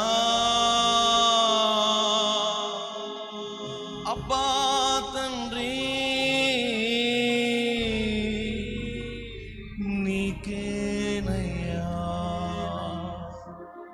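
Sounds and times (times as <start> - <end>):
musical accompaniment: 0.0 - 13.9
person singing long wavering notes: 0.0 - 13.9.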